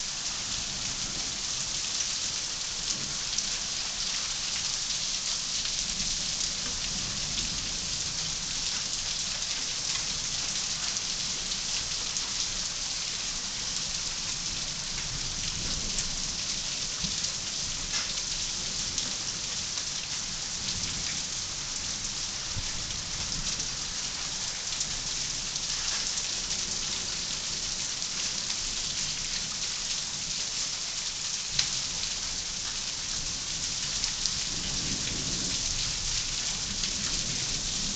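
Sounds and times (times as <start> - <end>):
heavy rain falling: 0.0 - 37.9.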